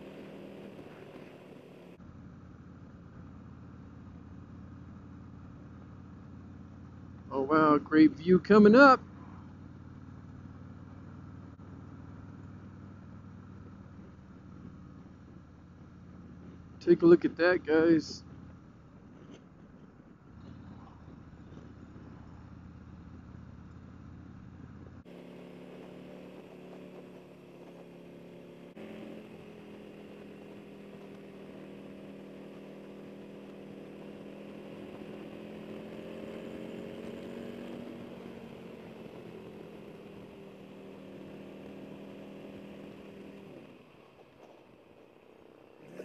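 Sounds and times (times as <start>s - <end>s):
motorcycle engine running: 0.0s - 46.0s
road noise: 0.0s - 46.0s.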